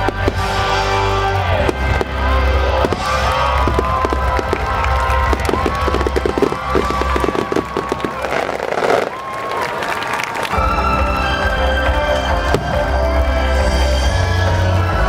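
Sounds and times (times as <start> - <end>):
music with steady bass: 0.0 - 8.4, 10.6 - 15.0
fireworks popping and crackling: 0.0 - 11.0, 11.8 - 13.8.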